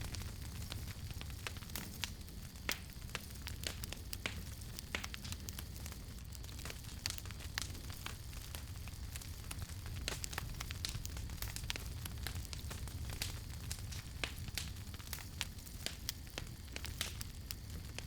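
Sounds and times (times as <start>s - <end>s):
campfire crackling: 0.0s - 18.0s
low rumble and hiss: 0.0s - 18.0s.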